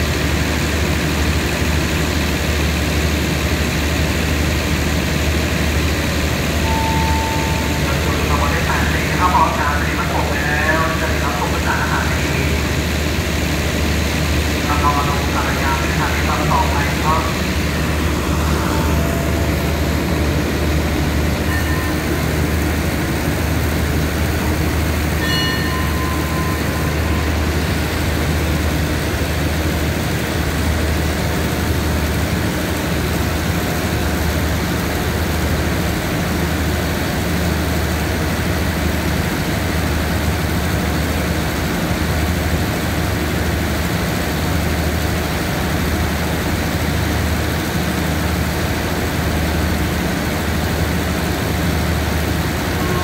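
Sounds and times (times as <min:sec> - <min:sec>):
diesel train engines idling: 0:00.0 - 0:53.0.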